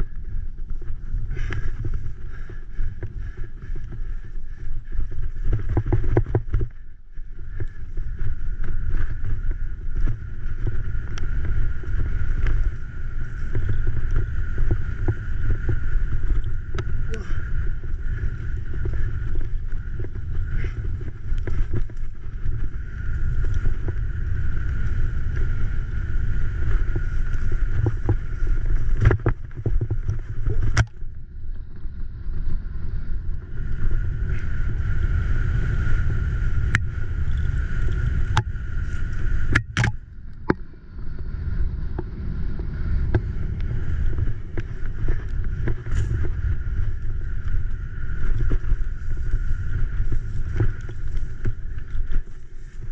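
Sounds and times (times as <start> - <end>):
bicycle rattling over bumps: 0.0 - 52.9
wind buffeting microphone: 0.0 - 52.9.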